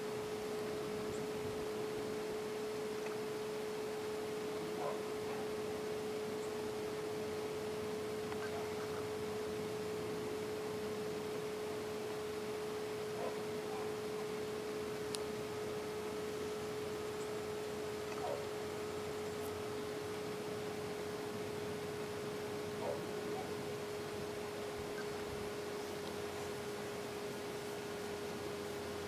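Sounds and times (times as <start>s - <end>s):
steady pure tone: 0.0s - 29.0s.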